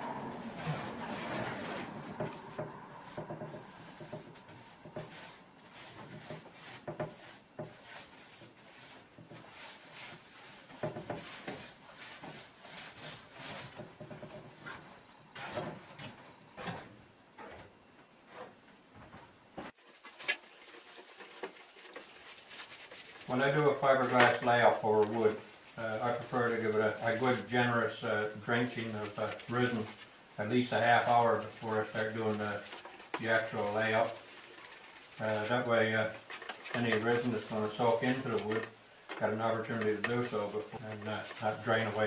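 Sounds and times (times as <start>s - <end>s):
hand scraping and rubbing wood: 0.0s - 16.8s, 19.6s - 42.0s.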